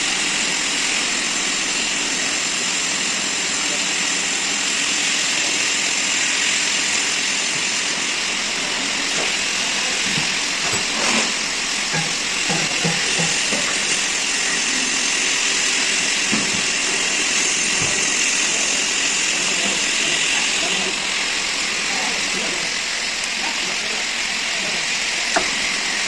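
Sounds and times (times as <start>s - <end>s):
metal lathe whirring: 0.0s - 26.0s.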